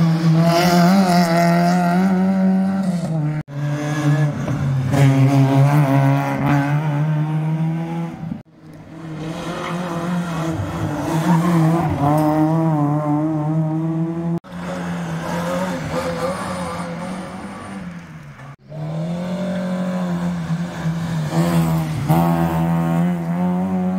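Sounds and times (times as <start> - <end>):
rally car engines revving: 0.0 - 23.9.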